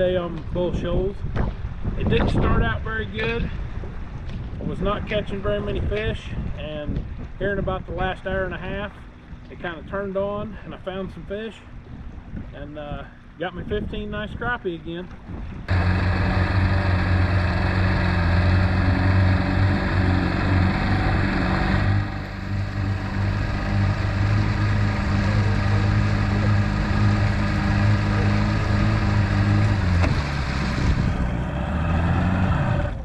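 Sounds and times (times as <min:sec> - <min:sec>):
outboard motor running: 0:01.2 - 0:13.8, 0:15.0 - 0:33.0.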